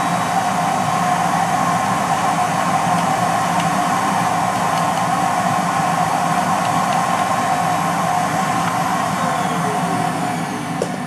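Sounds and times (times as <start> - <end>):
vacuum cleaner whining: 0.0 - 11.0
vacuum motor spinning down: 0.0 - 11.0.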